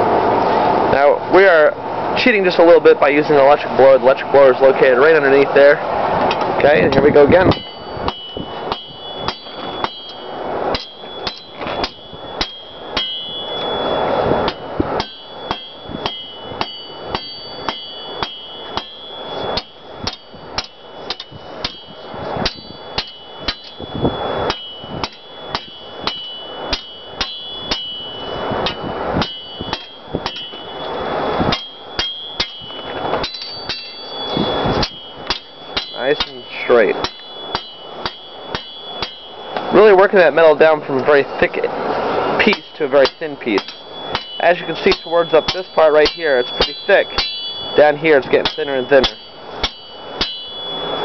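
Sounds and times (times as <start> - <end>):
anvil ringing: 3.1 - 51.0
hammer striking steel on anvil: 6.3 - 40.8, 42.2 - 51.0.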